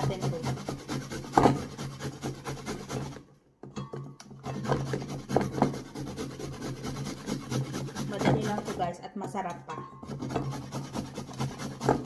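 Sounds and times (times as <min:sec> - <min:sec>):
carrot rasping on metal grater: 0:00.0 - 0:03.3, 0:04.3 - 0:09.1, 0:10.0 - 0:12.0.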